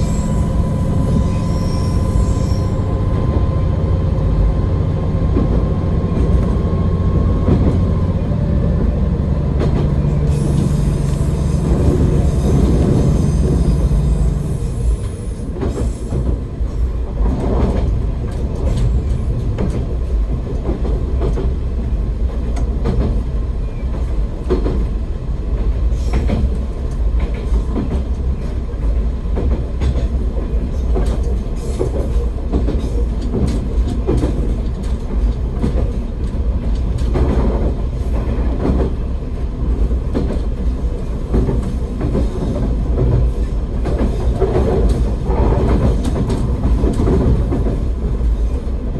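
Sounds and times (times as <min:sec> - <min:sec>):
railcar engine and wheels rumbling: 0:00.0 - 0:48.9.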